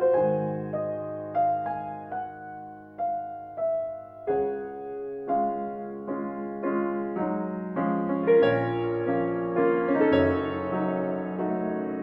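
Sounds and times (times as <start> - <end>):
slow classical piano piece: 0.0 - 12.0.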